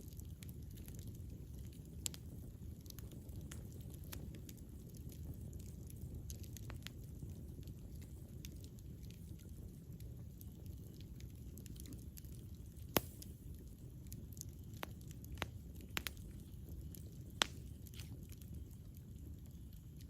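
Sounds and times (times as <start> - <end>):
campfire flames rumbling: 0.0 - 20.0
fire crackles and pops: 0.0 - 20.0.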